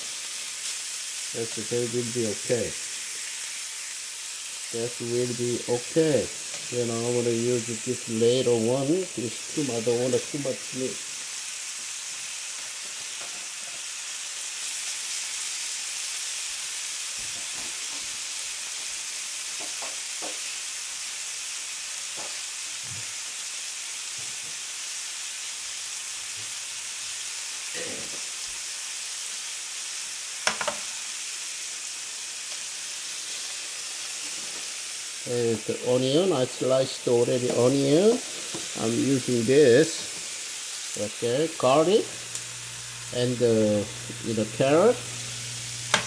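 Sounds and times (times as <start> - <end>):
meat sizzling in a frying pan: 0.0 - 46.0.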